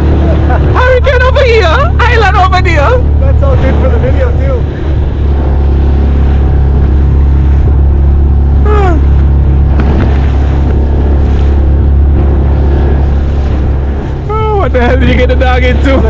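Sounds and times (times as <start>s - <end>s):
outboard motor running: 0.0s - 16.0s
water noise: 0.0s - 16.0s
wind: 0.0s - 16.0s.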